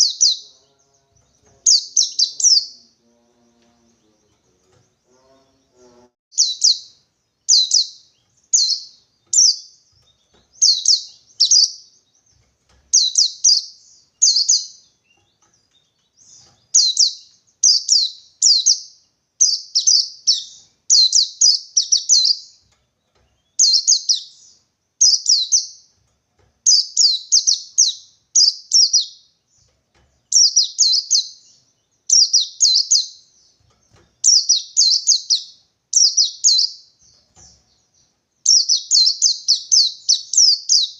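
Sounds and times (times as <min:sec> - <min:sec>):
bird chirping rapidly: 0:00.0 - 0:02.9, 0:06.3 - 0:22.6, 0:23.3 - 0:25.9, 0:26.6 - 0:29.6, 0:30.3 - 0:40.9.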